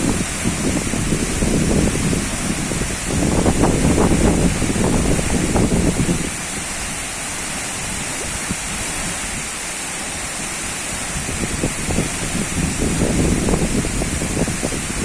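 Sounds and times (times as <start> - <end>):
waterfall rushing: 0.0 - 15.0
wind buffeting microphone: 0.0 - 15.0.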